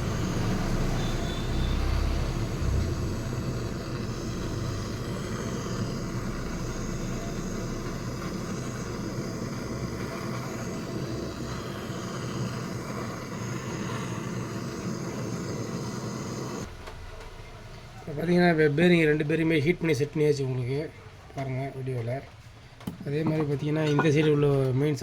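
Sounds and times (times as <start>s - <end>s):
gas torch burning: 0.0s - 25.0s.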